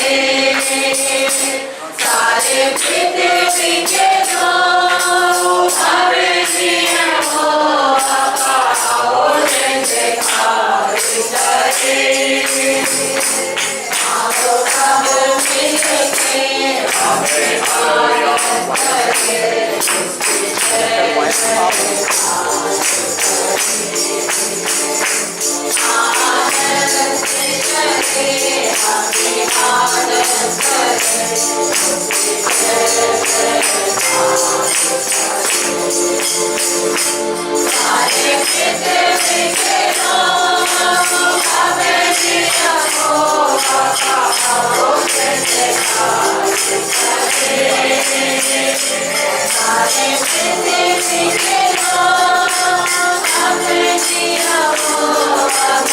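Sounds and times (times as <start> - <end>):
congregation singing in unison: 0.0 - 55.9
tambourine jingling: 0.0 - 55.9.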